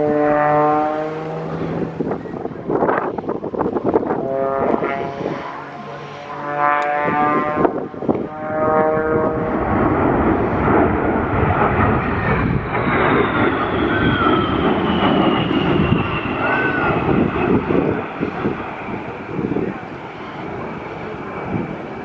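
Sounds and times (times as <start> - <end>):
fighter jet passing: 0.0 - 22.0
jet engine high whine: 0.0 - 22.0.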